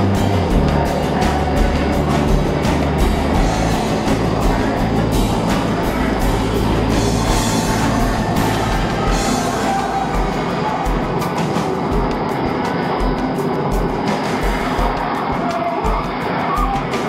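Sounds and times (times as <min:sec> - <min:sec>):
drum-like hits: 0:00.0 - 0:17.0
loud music with deep drone: 0:00.0 - 0:17.0.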